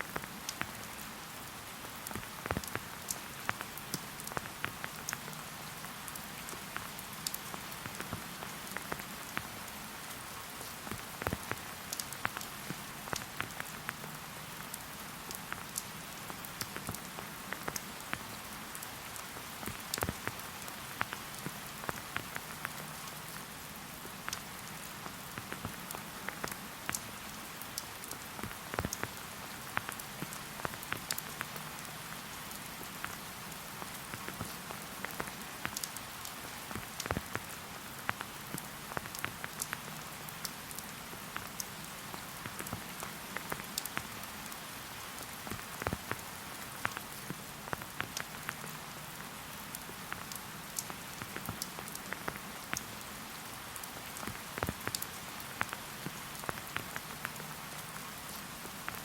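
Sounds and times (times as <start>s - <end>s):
raindrops tapping close by: 0.0s - 59.0s
steady rain hiss: 0.0s - 59.0s.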